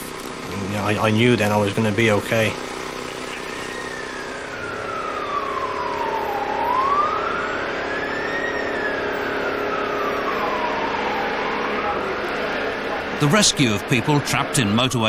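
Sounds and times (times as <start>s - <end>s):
siren wailing: 2.0s - 15.0s.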